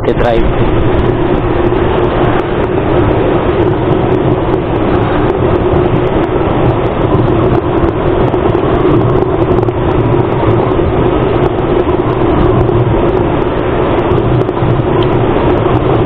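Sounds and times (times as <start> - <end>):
motorcycle engine hum: 0.0 - 16.0
wind and road noise: 0.0 - 16.0.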